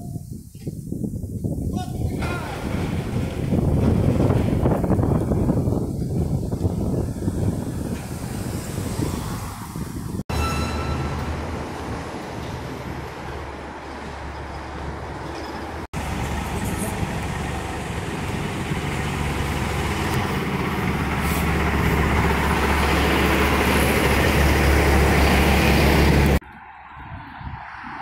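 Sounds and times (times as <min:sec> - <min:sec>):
road noise: 0:00.0 - 0:28.0
street traffic noise: 0:02.3 - 0:28.0
truck engine passing by: 0:02.6 - 0:26.4.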